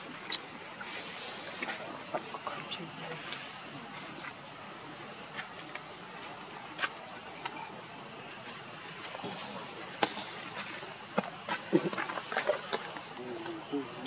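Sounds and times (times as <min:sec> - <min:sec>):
insects hissing: 0:00.0 - 0:14.0.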